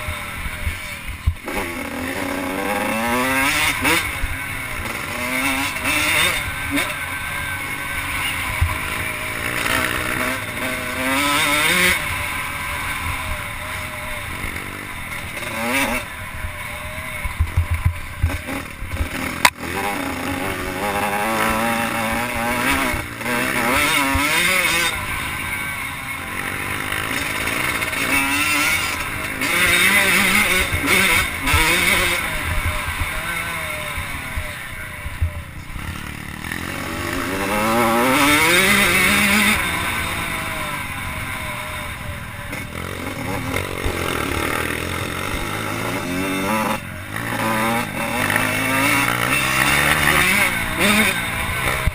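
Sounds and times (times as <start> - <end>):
motocross bikes racing: 0.0 - 51.9.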